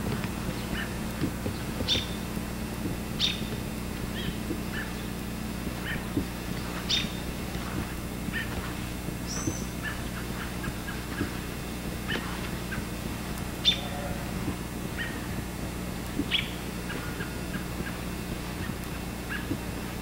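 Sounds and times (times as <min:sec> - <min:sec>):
steady low hum: 0:00.0 - 0:20.0
bird chirps: 0:00.5 - 0:15.4, 0:16.2 - 0:19.6.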